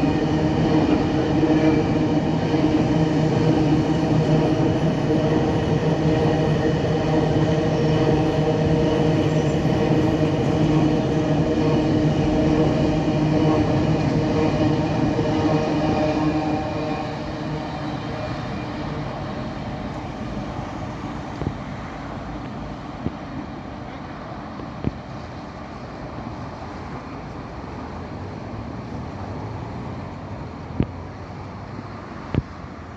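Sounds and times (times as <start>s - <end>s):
diesel locomotive engine droning: 0.0s - 32.9s
freight train rumbling past: 0.0s - 32.9s.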